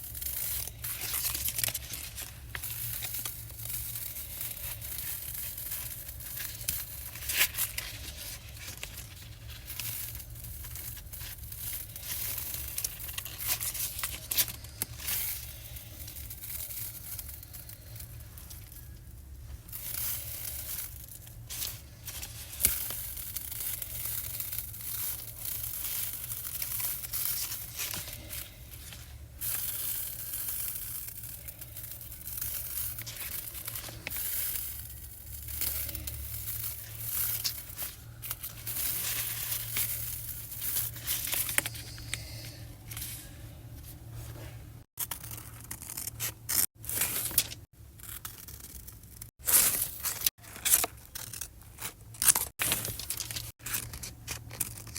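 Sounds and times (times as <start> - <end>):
paper crinkling and tearing: 0.0 - 19.1, 19.7 - 43.4, 44.9 - 54.9.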